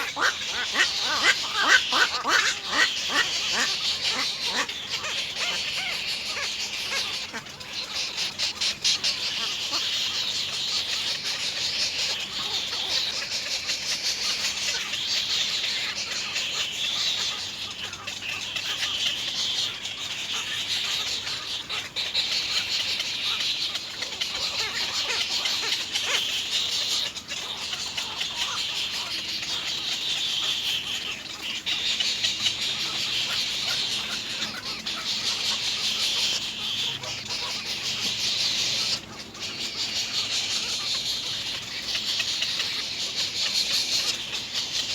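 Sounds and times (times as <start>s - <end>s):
nestling birds chirping: 0.0s - 44.9s.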